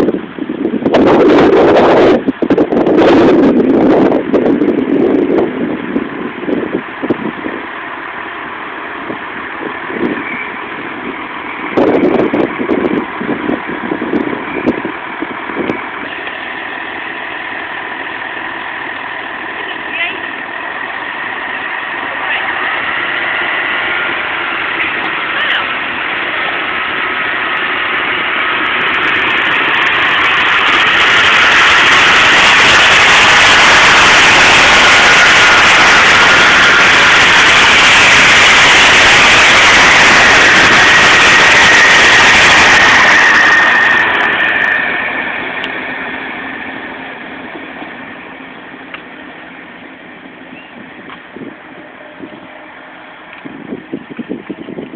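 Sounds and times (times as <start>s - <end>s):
train passing at speed: 0.0s - 54.9s
faint high whine: 9.1s - 54.8s.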